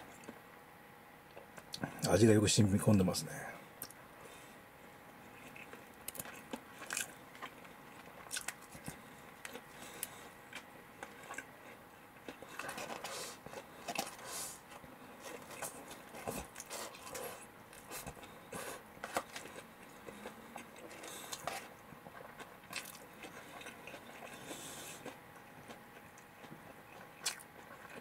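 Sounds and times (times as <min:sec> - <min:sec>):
person chewing crunchy food: 0:03.7 - 0:28.0.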